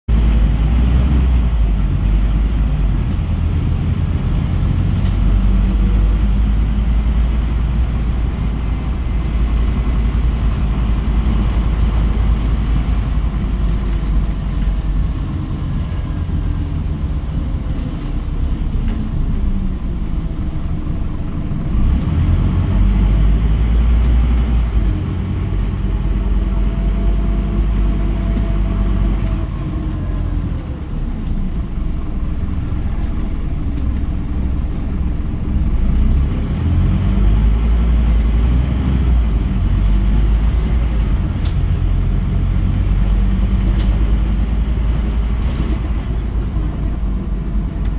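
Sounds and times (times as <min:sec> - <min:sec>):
bus engine and road rumble: 0:00.0 - 0:47.9
faint engine whine: 0:00.1 - 0:47.9.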